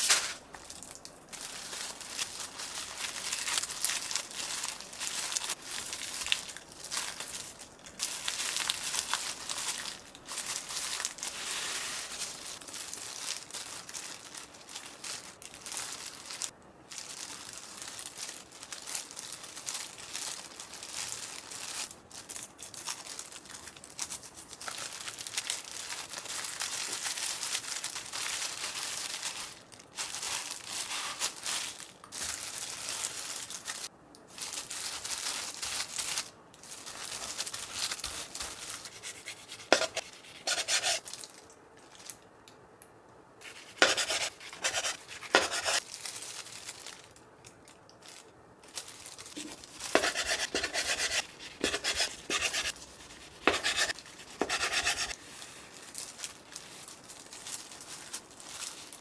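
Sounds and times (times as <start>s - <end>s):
seaweed sheets rustling: 0.0s - 42.2s, 43.4s - 59.0s
plastic gloves crinkling: 0.0s - 42.5s, 43.4s - 59.0s.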